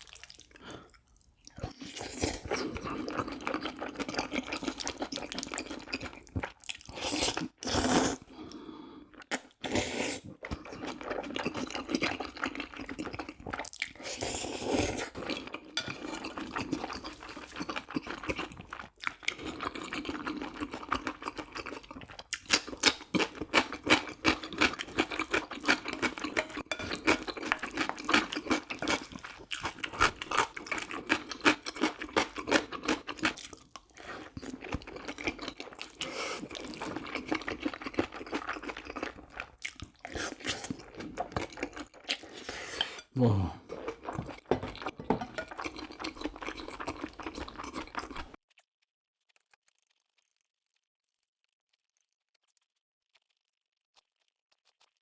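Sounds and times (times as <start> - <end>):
person chewing food: 0.0 - 48.4.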